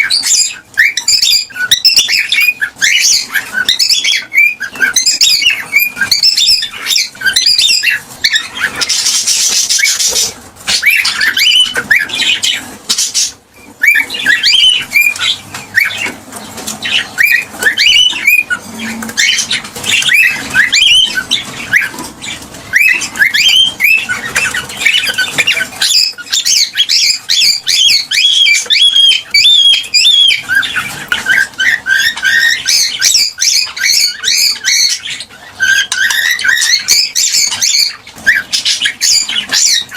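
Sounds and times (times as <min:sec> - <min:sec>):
cockatiel chirping: 0:00.0 - 0:39.9
cockatiel squawk: 0:00.0 - 0:39.9.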